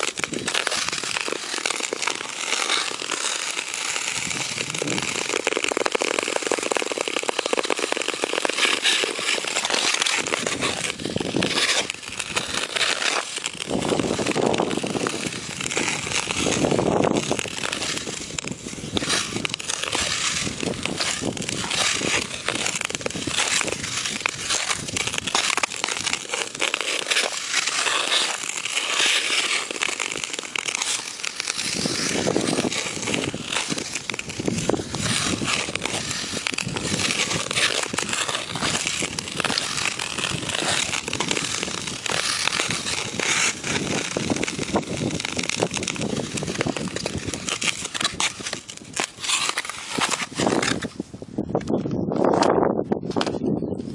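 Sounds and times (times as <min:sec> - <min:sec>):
skate blades scraping ice: 0:00.0 - 0:53.9
skates crunching on snow: 0:00.0 - 0:53.9.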